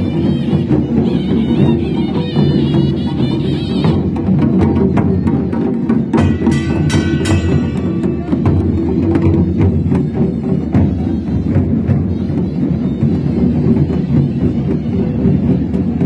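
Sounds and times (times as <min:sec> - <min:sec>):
pitched instrument: 0:00.0 - 0:15.4
drums and percussion: 0:00.0 - 0:16.0.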